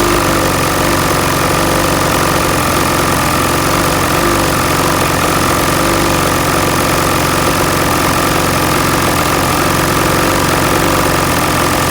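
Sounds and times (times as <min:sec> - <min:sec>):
two-stroke engine idling with knocking: 0:00.0 - 0:11.9.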